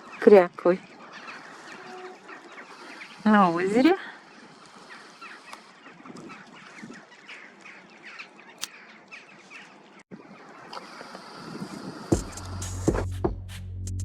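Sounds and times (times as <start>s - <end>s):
ducks calling: 0.0s - 12.9s.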